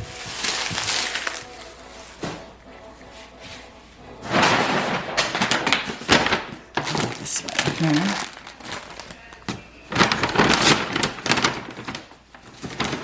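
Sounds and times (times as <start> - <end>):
grocery bag rustling: 0.0 - 13.0.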